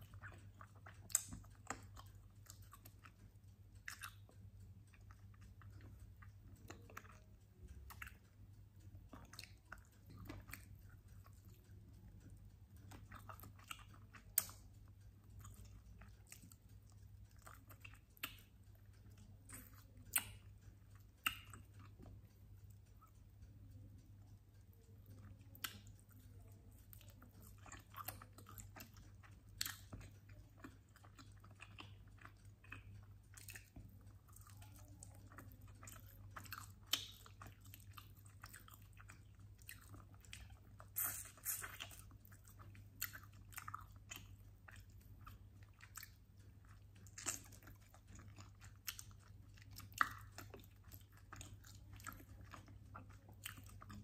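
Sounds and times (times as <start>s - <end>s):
chewing chicken wings: 0.0s - 54.0s
low steady hum: 0.0s - 54.0s.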